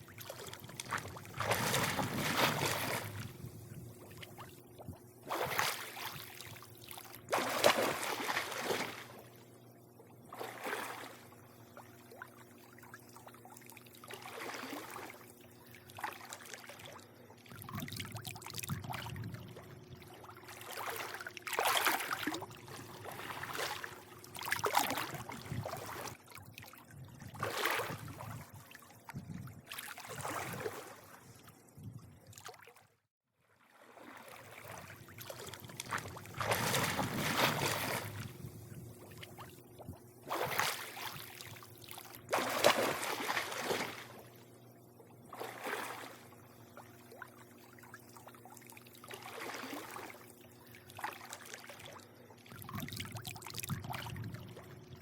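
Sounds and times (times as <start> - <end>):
faint steady hum: 0.0 - 32.6, 33.6 - 55.0
pool water lapping and sloshing: 0.0 - 55.0.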